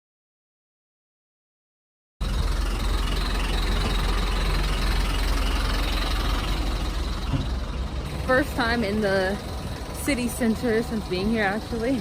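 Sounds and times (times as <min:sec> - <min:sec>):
street noise: 0:02.2 - 0:12.0
vehicle engine idling: 0:02.2 - 0:12.0.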